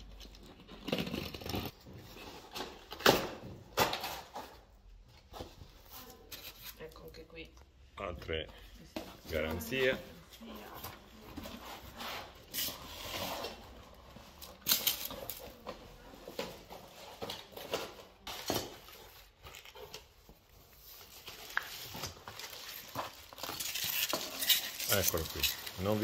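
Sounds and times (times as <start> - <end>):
cardboard and plastic rustling: 0.0 - 7.1, 9.0 - 26.0.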